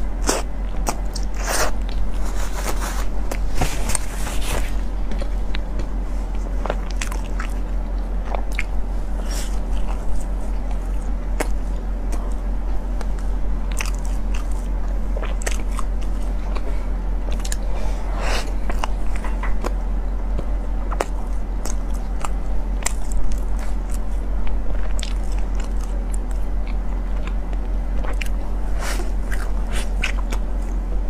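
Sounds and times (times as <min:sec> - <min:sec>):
biting and chewing bread: 0:00.0 - 0:31.0
steady low hum: 0:00.0 - 0:31.0.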